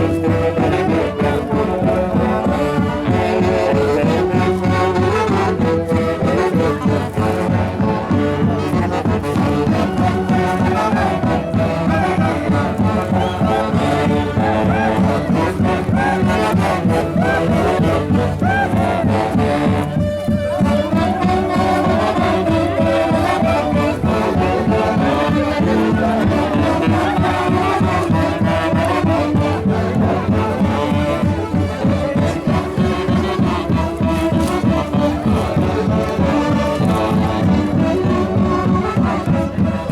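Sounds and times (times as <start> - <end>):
live brass band music: 0.0 - 39.9.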